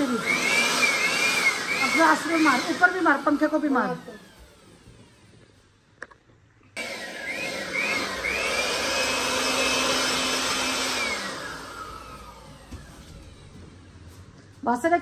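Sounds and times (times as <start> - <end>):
electric air blower motor whine: 0.0 - 5.5, 6.8 - 14.4.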